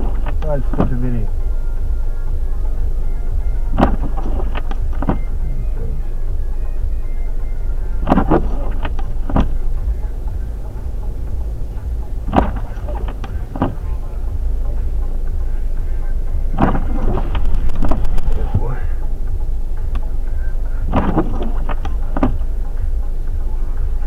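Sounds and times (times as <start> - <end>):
car cabin rumble: 0.0 - 23.8.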